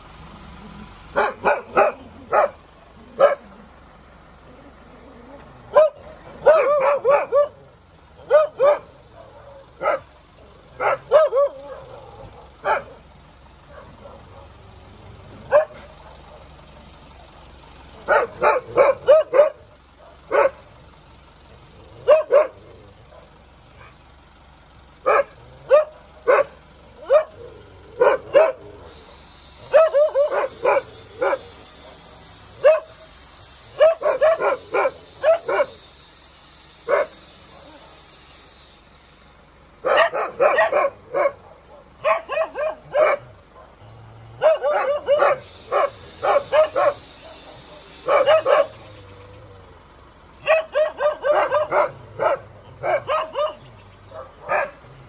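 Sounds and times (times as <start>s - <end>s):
dogs barking: 1.1s - 4.4s, 5.2s - 20.9s, 21.5s - 24.0s, 25.0s - 36.0s, 36.8s - 38.1s, 39.7s - 55.0s.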